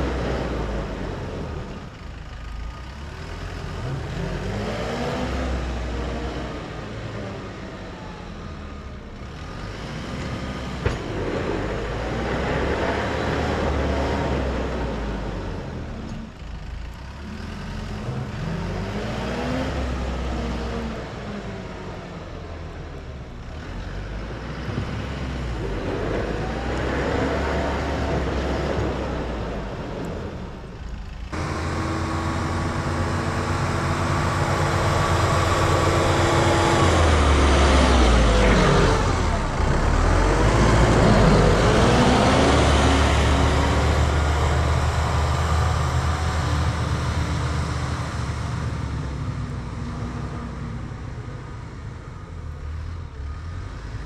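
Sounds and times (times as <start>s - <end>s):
tractor diesel engine passing: 0.0s - 54.0s.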